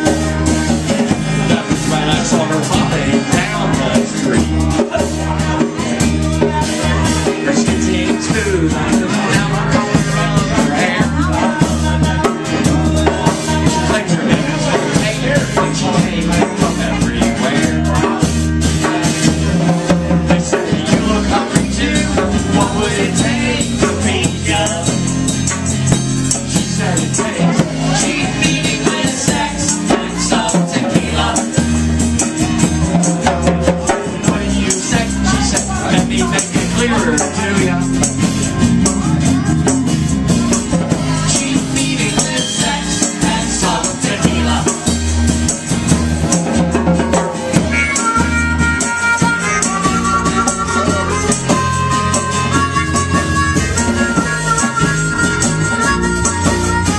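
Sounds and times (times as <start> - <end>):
bass: 0.0 - 56.9
strummed acoustic guitar: 0.0 - 56.9
voices singing: 0.0 - 56.9.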